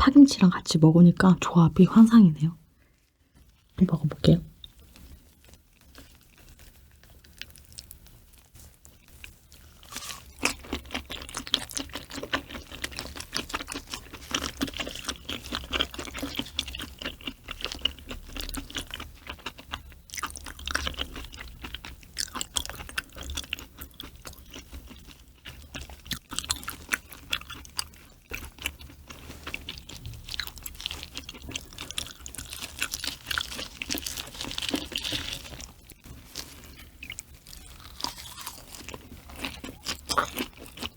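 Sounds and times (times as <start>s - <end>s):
wet chewing mouth sounds: 4.6s - 40.9s.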